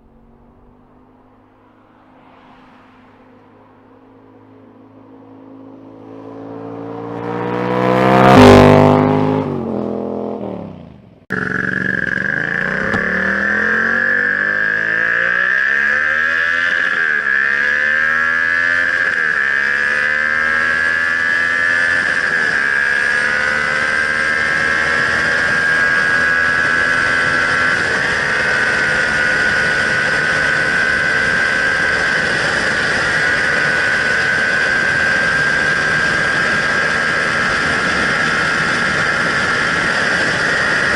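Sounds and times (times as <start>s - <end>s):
motorcycle engine revving: 0.0s - 40.9s
motorcycle passing by: 0.0s - 40.9s.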